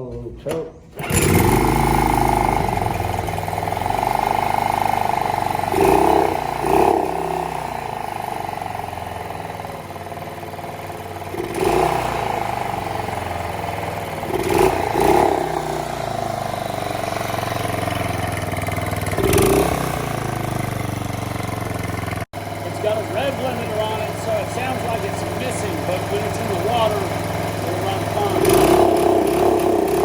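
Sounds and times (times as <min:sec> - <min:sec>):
outboard motor running: 0:01.0 - 0:30.0.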